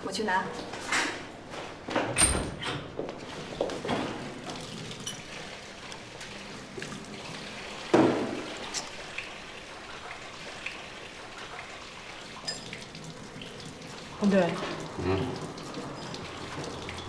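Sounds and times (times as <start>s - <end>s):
tap water running into sink: 3.0s - 17.0s.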